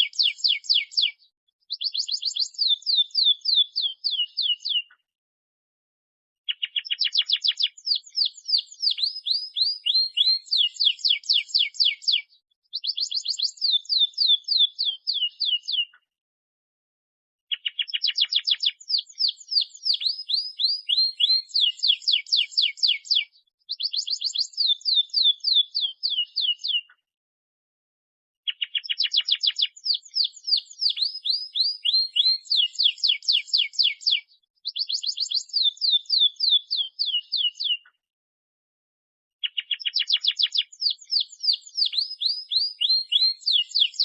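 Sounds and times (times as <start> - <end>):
canary singing trills: 0.0 - 5.0, 6.5 - 16.0, 17.5 - 26.9, 28.5 - 37.9, 39.4 - 44.0.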